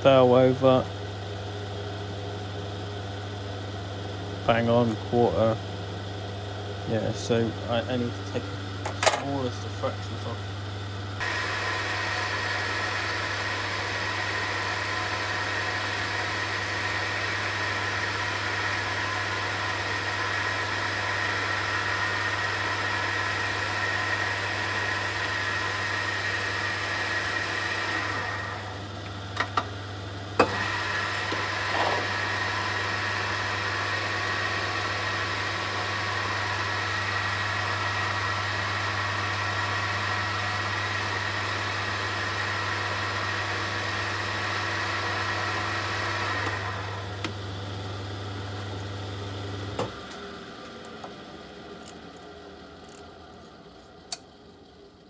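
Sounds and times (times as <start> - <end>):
lathe running with whine: 0.0 - 55.0.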